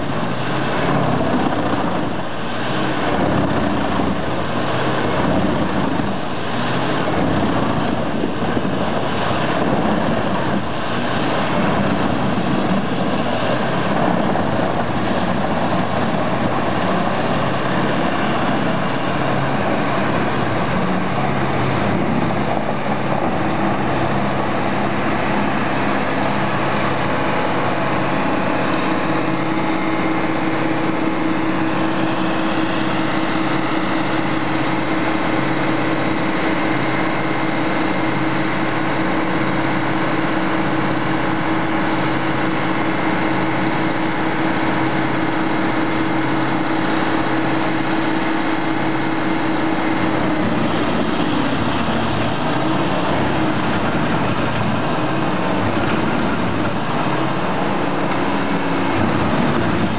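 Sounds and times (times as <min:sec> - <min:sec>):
wood chipper chipping logs: 0:00.0 - 0:59.9.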